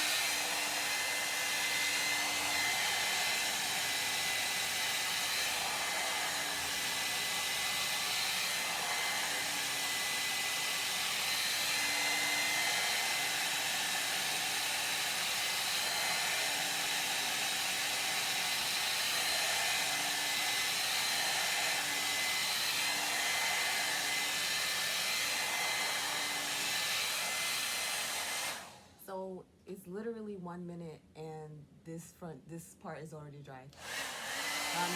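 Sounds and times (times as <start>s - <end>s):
hair dryer running: 0.0s - 29.0s, 33.7s - 34.9s.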